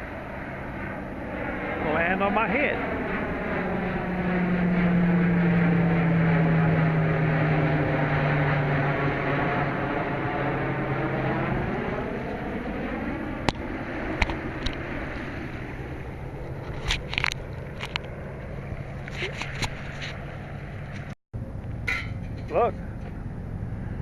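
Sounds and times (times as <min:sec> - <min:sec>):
low-flying airplane drone: 0:00.0 - 0:24.0.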